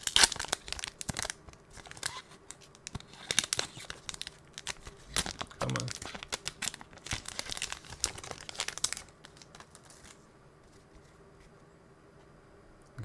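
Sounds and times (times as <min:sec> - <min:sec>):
foil wrapper crinkling: 0:00.0 - 0:11.2.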